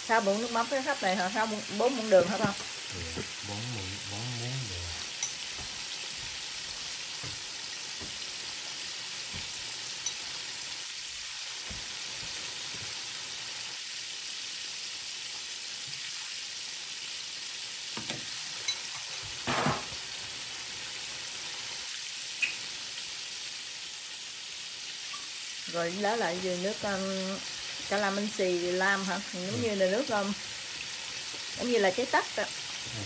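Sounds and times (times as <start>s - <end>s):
deep-frying sizzle: 0.0s - 33.0s.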